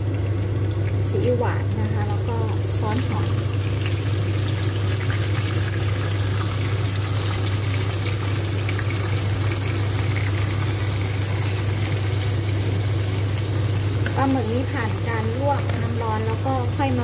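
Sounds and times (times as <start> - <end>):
squid sizzling in a wok: 0.0 - 17.0.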